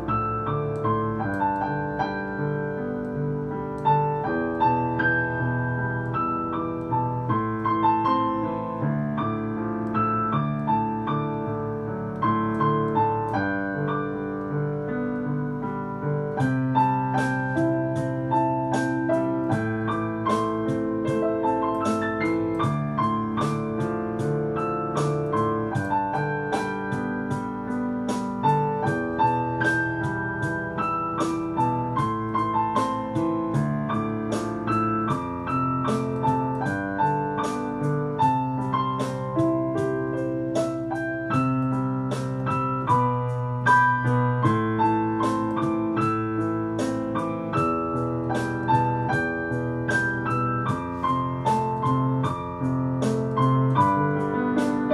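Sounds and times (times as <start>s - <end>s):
sharp high ticks on a beat: 0.0s - 8.8s, 9.4s - 15.3s, 16.1s - 54.9s
digital piano playing pop ballad: 0.0s - 54.9s.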